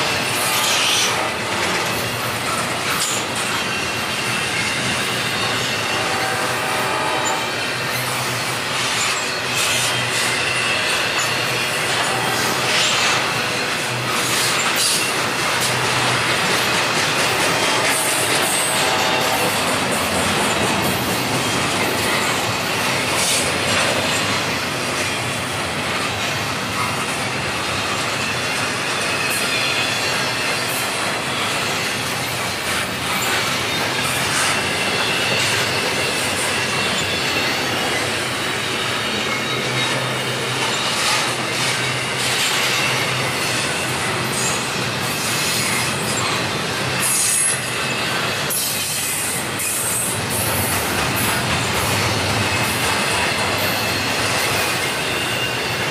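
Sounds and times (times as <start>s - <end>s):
train wheels rumbling on rails: 0.0s - 55.9s
high wheel squeal: 0.1s - 55.9s.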